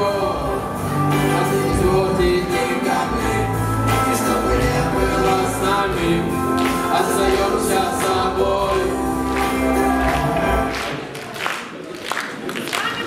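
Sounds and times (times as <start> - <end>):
backing track with bass line: 0.0 - 10.8
group of voices singing: 0.0 - 11.0.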